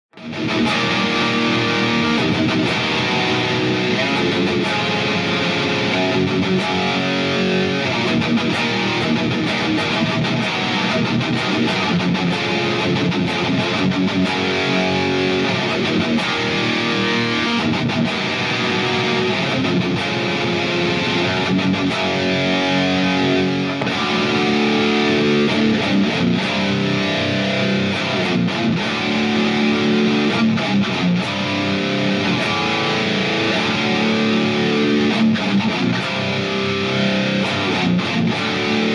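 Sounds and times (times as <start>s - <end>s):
distorted electric guitar: 0.1s - 38.9s.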